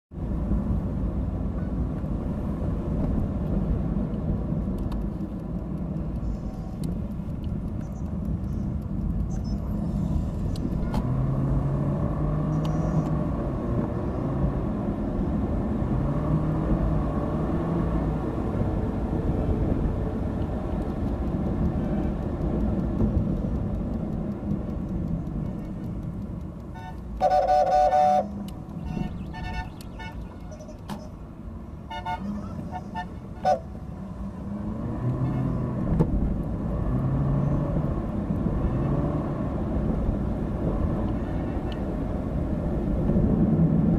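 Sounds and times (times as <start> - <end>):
traffic rumble: 0.1 - 43.9.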